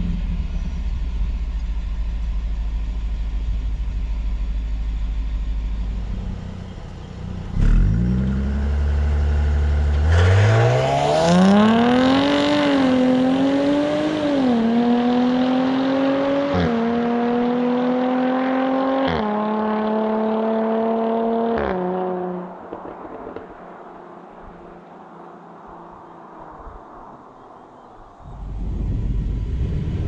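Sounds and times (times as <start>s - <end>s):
sports car engine accelerating: 0.0s - 26.6s.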